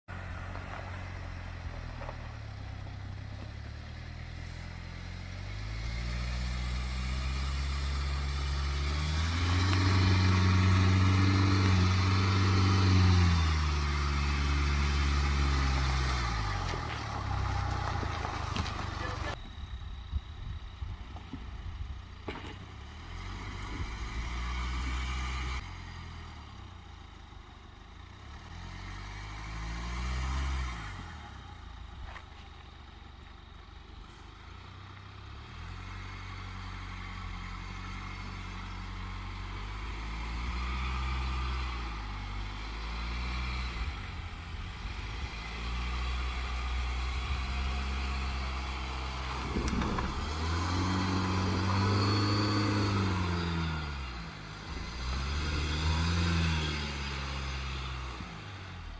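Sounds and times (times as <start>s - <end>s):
engine revving over gravel: 0.1s - 19.5s, 21.1s - 27.4s, 28.0s - 58.9s.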